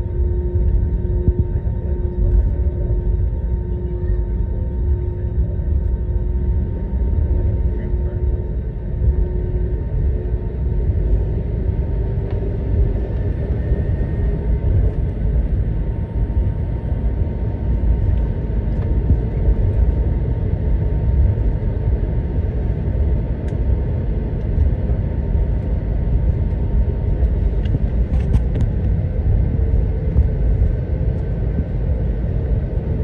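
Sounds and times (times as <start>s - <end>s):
faint steady hum: 0.0s - 33.0s
jet engines rumbling in cabin: 0.0s - 33.0s.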